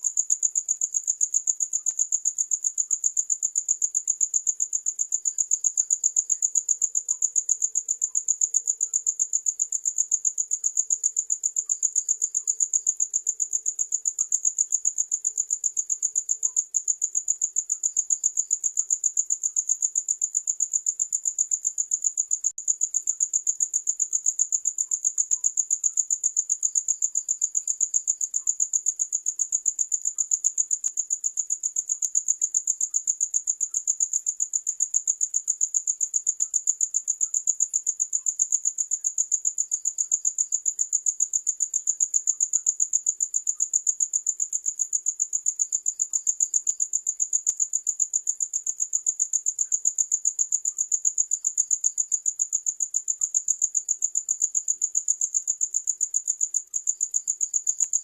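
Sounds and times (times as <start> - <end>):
cricket chirping: 0.0 - 58.0
second cricket chirping lower: 0.0 - 58.0.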